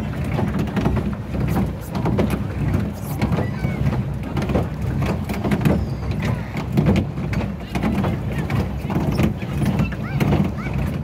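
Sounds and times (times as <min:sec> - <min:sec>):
knocks and clicks from boat drive: 0:00.0 - 0:11.0
pedal boat low rumble: 0:00.0 - 0:11.0.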